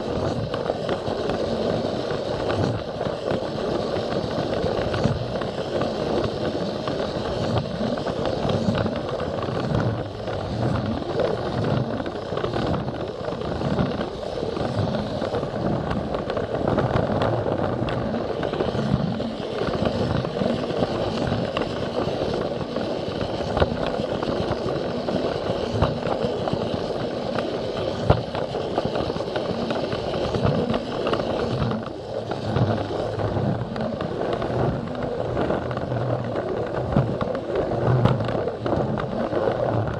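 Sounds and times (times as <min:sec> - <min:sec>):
toy train rolling on plastic track: 0:00.0 - 0:39.9.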